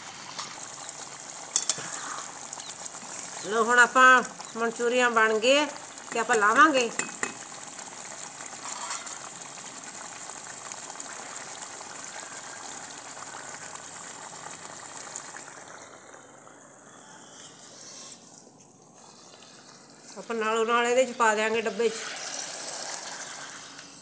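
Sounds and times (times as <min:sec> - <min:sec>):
gravy bubbling in a wok: 0:00.0 - 0:24.0.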